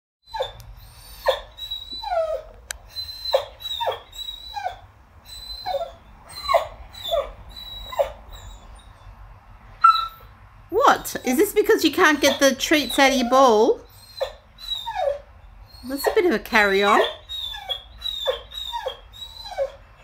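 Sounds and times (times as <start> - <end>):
dog whining: 0.2 - 9.1, 9.8 - 20.0.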